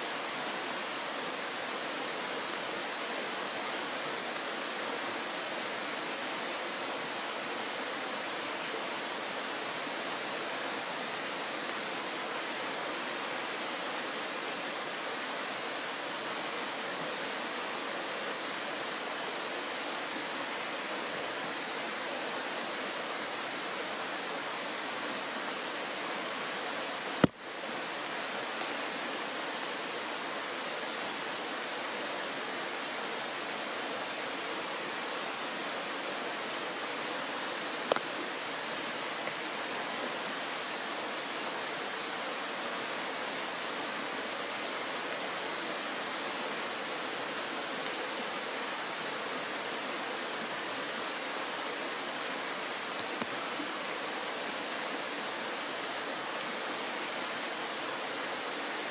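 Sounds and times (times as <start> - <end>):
stream rushing over stones: 0.0 - 58.9.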